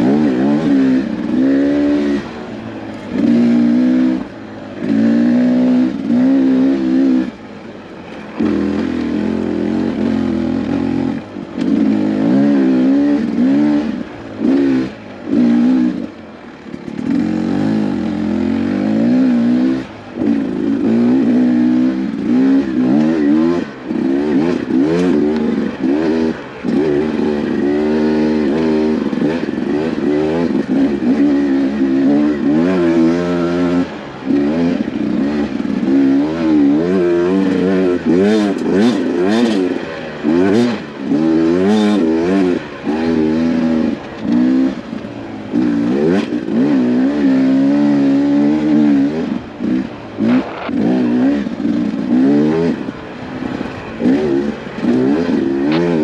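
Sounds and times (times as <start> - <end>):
dirt bike engine revving: 0.0 - 7.5, 8.2 - 56.0.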